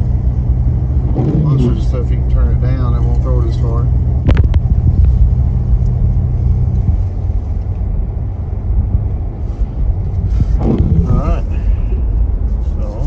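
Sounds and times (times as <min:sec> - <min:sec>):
steady low hum: 0:00.0 - 0:13.0
truck engine and road rumble: 0:00.0 - 0:13.0.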